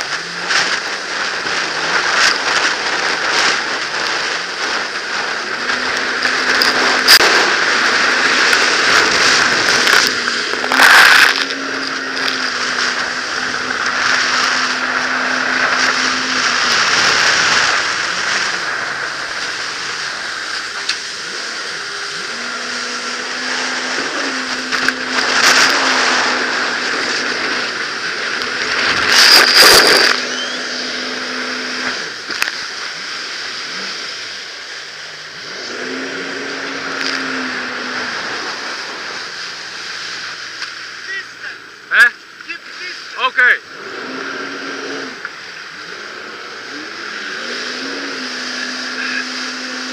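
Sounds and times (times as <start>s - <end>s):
loud splashes: 0.0s - 49.9s
personal watercraft engine hum: 0.0s - 49.9s
rush of wind and spray: 0.0s - 49.9s.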